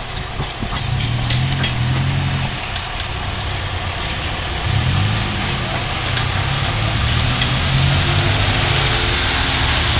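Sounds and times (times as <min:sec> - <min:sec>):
vehicle engines humming: 0:00.0 - 0:09.9.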